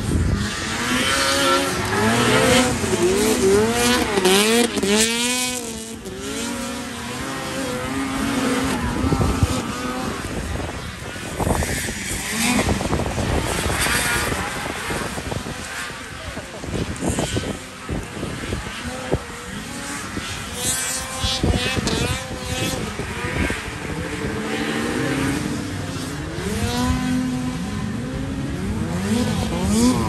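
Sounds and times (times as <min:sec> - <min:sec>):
snowmobile engines revving: 0:00.0 - 0:30.0.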